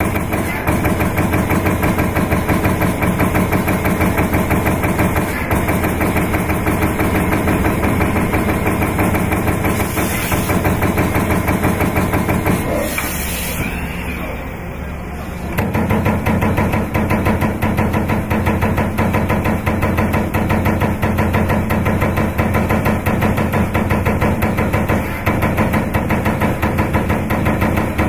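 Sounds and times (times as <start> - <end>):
stamping press strokes: 0.0 - 13.7, 15.5 - 28.0.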